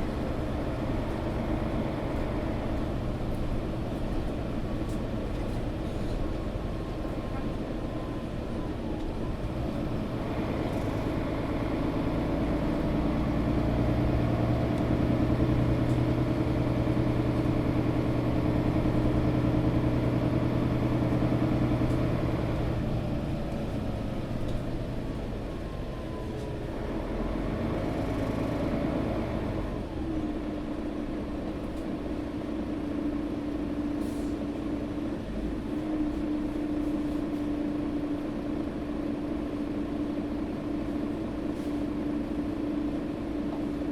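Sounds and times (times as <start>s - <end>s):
bus engine humming: 0.0s - 43.9s.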